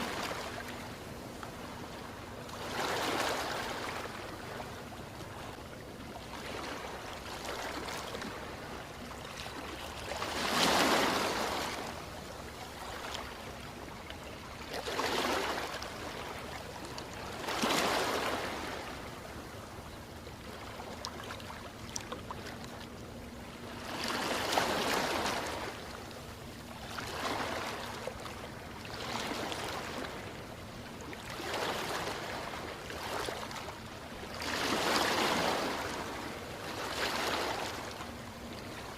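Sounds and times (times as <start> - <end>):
ocean waves on shore: 0.0 - 38.9.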